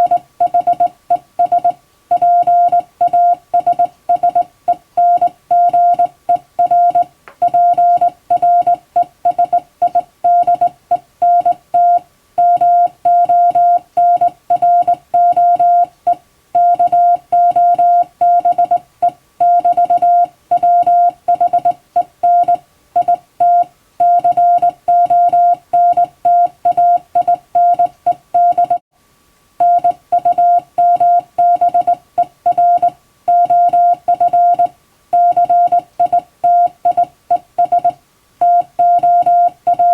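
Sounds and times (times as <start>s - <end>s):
morse code tone: 0.0s - 18.8s, 19.4s - 28.8s, 29.6s - 39.9s.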